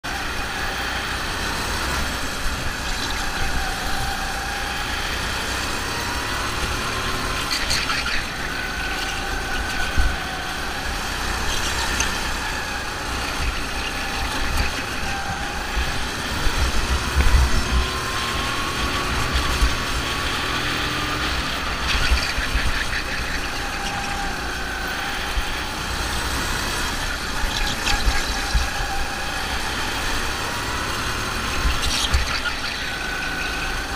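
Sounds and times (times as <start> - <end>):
go-kart engine revving: 0.0 - 33.9.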